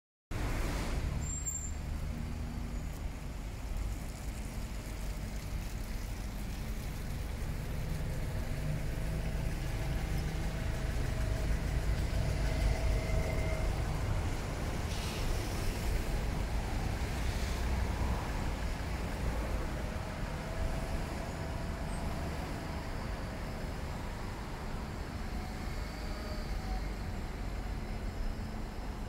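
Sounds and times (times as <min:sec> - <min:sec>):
bus pulling in: 0:00.3 - 0:29.0
traffic rumble: 0:00.3 - 0:29.0.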